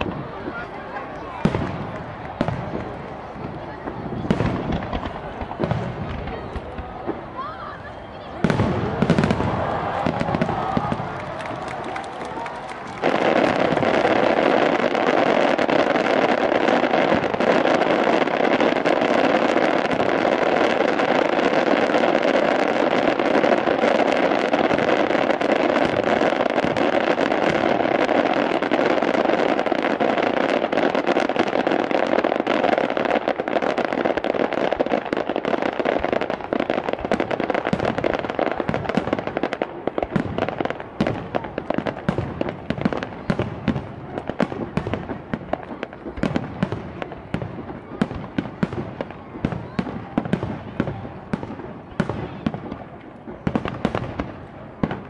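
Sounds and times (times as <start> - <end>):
fireworks barrage rumble: 0.0 - 55.0
sharp firework bangs: 8.4 - 55.0.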